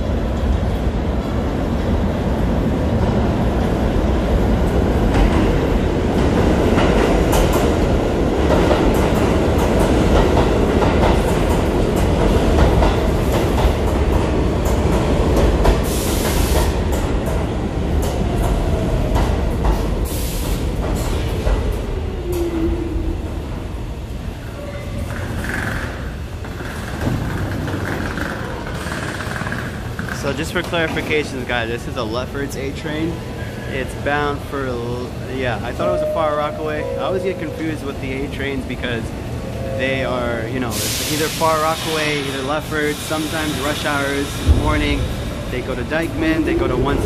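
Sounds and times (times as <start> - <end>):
subway train rumbling: 0.0 - 47.0.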